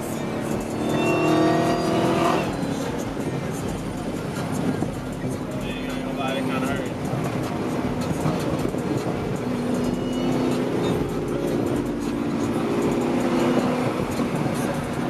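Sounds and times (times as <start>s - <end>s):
car engine drone and road noise: 0.0s - 15.0s.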